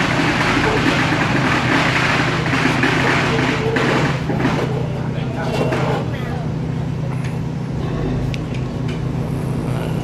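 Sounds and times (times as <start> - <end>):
boat engine humming: 0.0 - 10.0
river and pier noise: 0.0 - 10.0.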